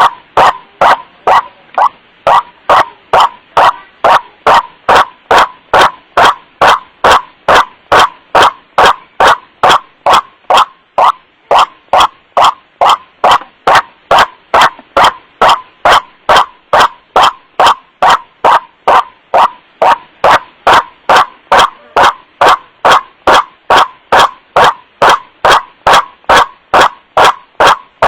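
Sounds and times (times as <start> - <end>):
recorded bird call: 0.0 - 23.5.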